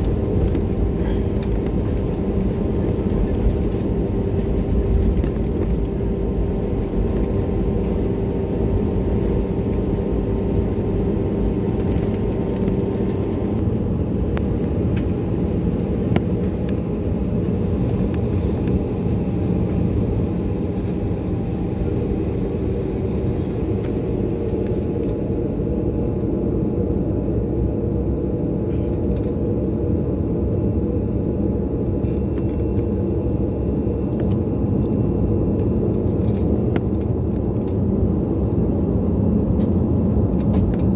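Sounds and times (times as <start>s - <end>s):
airliner cabin engine rumble: 0.0s - 40.9s
steady hum: 0.0s - 40.9s.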